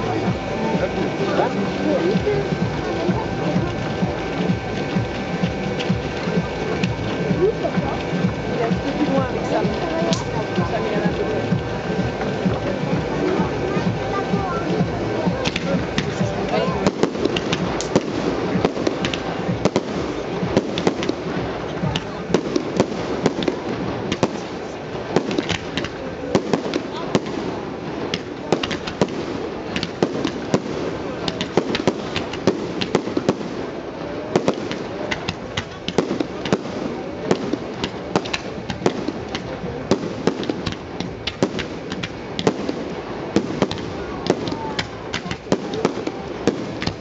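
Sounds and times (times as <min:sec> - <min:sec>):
fireworks bangs and pops: 0:00.0 - 0:47.0
steady murmur: 0:00.0 - 0:47.0.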